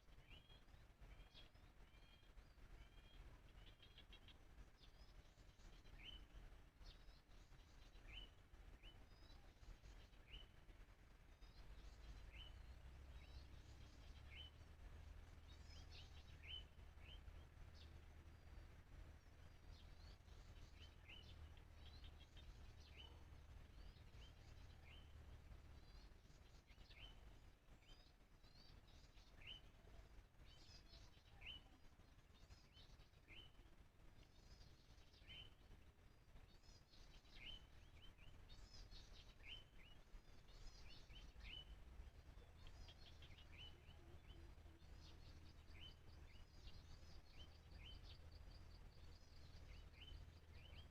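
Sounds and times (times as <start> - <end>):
faint low rumble: 0.0 - 50.9.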